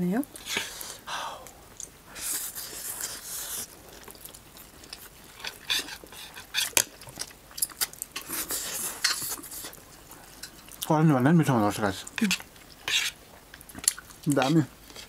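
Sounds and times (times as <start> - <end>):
wet open-mouth chewing: 0.3 - 10.9, 12.1 - 15.0.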